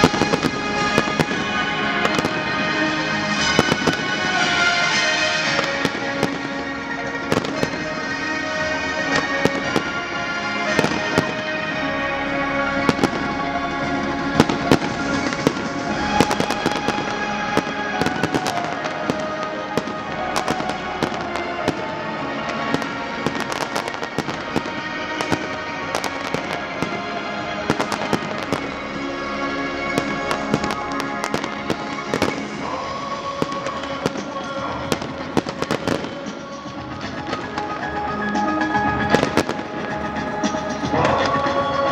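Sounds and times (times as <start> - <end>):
fireworks bangs and crackles: 0.0 - 41.9
music playing: 0.0 - 41.9.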